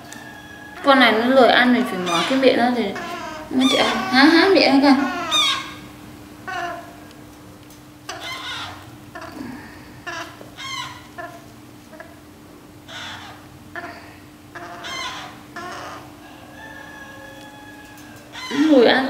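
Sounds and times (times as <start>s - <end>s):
parakeet chick calling: 0.0s - 7.1s, 8.0s - 12.2s, 12.8s - 19.0s.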